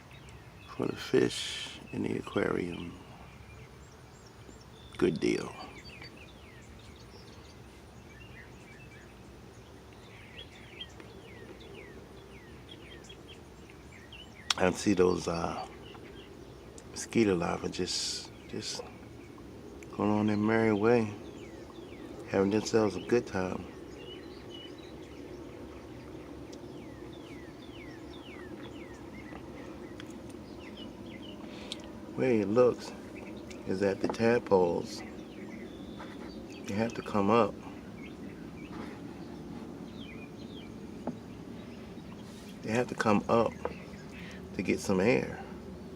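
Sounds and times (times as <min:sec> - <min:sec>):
low background hum: 0:00.0 - 0:45.9
small birds chirping: 0:00.0 - 0:45.9.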